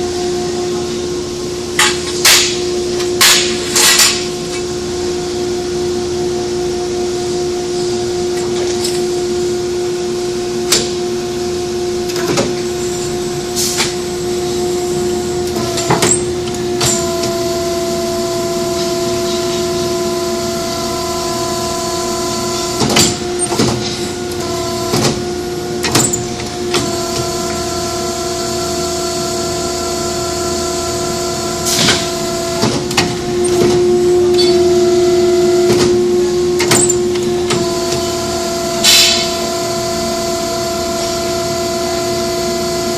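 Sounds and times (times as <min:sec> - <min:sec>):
pipe bending machine humming: 0:00.0 - 0:42.9.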